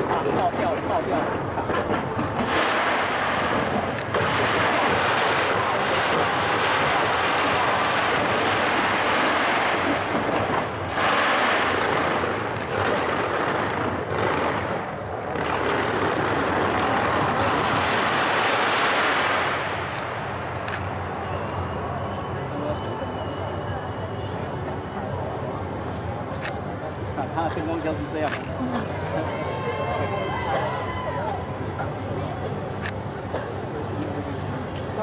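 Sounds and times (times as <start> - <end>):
fireworks crackling: 0.0 - 35.0
fireworks roar: 0.0 - 35.0.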